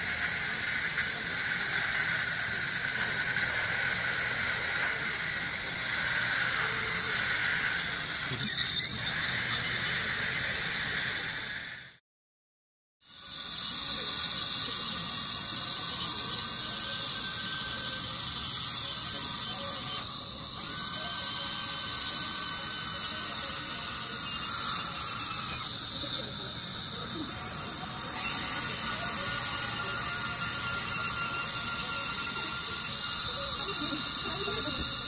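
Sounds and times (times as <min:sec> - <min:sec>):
dental handpiece grinding: 0:00.0 - 0:12.0, 0:13.0 - 0:35.0
thin whine: 0:00.0 - 0:12.0, 0:13.0 - 0:35.0.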